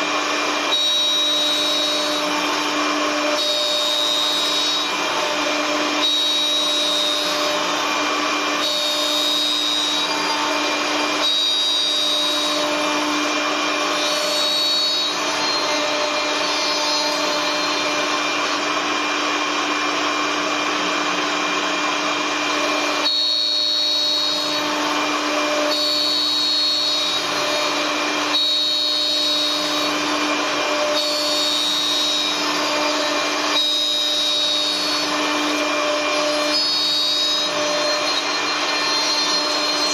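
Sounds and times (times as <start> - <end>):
machine whine: 0.0 - 39.9
wood being cut: 0.0 - 39.9.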